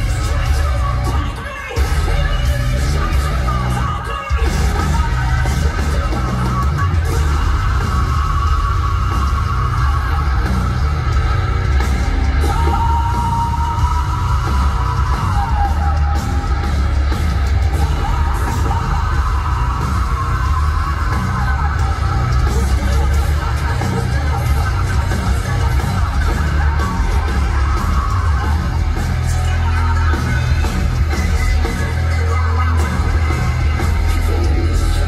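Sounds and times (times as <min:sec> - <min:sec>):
heavy metal band playing: 0:00.0 - 0:35.0
yelled vocals: 0:00.0 - 0:35.0.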